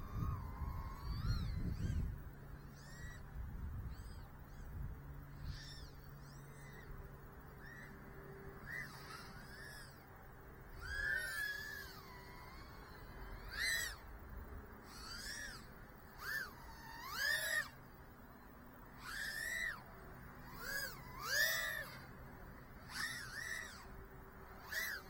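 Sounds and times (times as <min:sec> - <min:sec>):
quadcopter motors whining: 0:00.0 - 0:14.1, 0:14.8 - 0:25.0.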